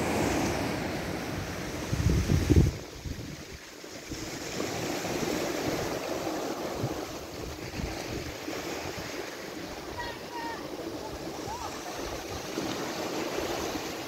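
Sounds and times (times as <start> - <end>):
small waves lapping: 0.0 - 14.0
wind buffeting microphone: 0.0 - 14.0.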